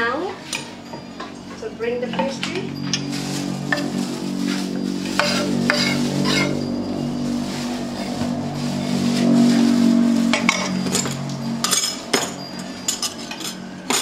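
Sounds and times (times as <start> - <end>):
spoons clinking against bowls: 0.0 - 8.4, 10.3 - 14.0
low hum: 0.0 - 14.0.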